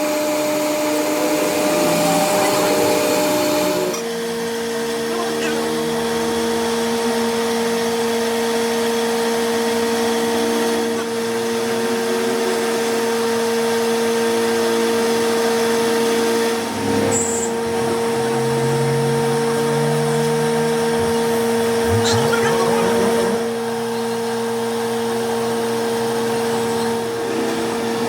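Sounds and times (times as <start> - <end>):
power tool motor humming: 0.0 - 28.0.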